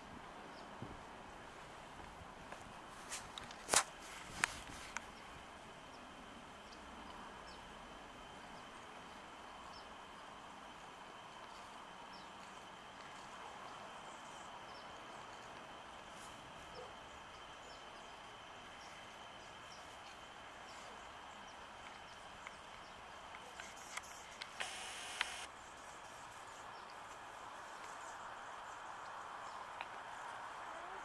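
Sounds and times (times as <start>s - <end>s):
faint hiss: 0.0s - 31.0s.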